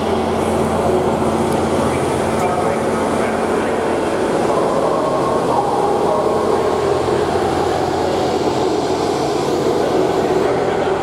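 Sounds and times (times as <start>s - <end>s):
train diesel engine idling: 0.0s - 11.0s.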